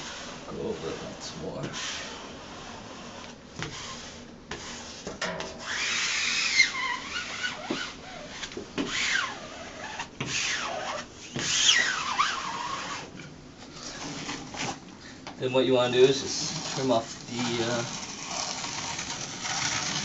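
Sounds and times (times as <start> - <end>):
squeegee rubbing on wallpaper: 0.0 - 13.1, 13.7 - 14.8, 15.5 - 20.0.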